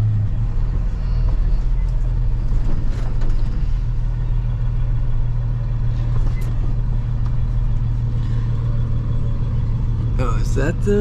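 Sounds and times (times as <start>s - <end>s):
truck engine humming: 0.0s - 11.0s.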